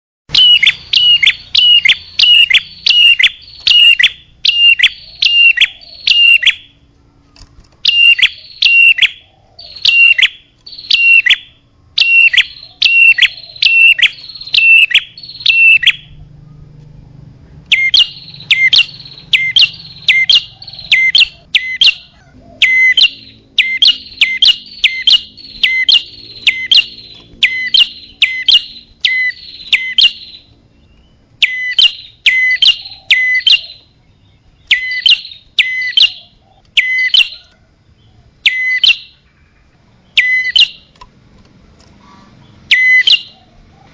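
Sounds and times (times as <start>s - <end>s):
small bird chirping sharply: 0.3s - 41.0s, 42.0s - 43.6s.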